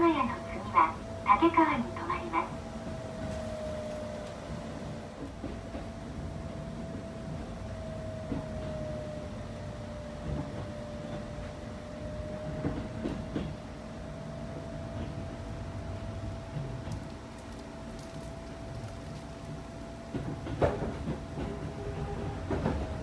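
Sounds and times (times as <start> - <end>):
train rumble with whine: 0.0 - 23.0.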